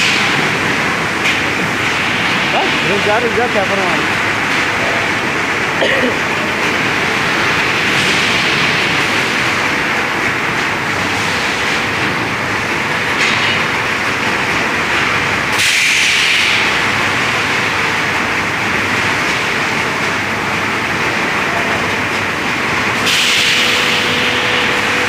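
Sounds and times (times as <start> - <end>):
industrial presses running: 0.0 - 25.0.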